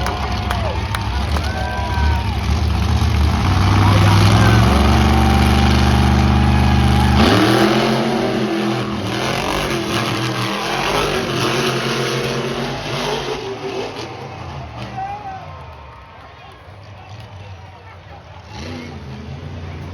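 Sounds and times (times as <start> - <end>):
monster truck engines revving: 0.0 - 19.9.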